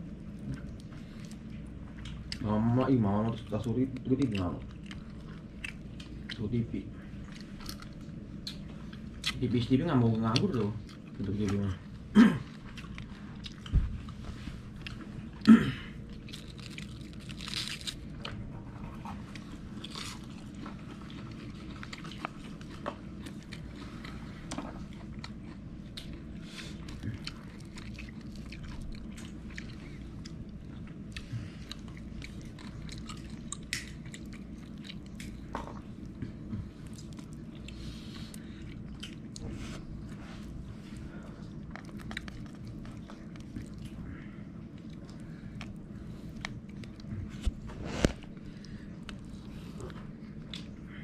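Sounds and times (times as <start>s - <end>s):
person chewing crunchy food: 3.4s - 9.4s, 10.2s - 50.9s.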